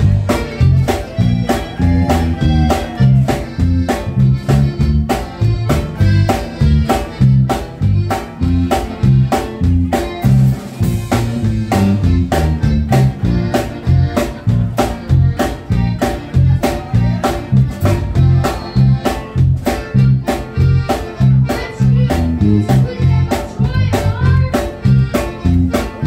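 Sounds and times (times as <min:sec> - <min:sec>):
button accordion: 0:00.0 - 0:26.0
drum kit beat: 0:00.0 - 0:26.0
twelve-string guitar: 0:00.0 - 0:26.0.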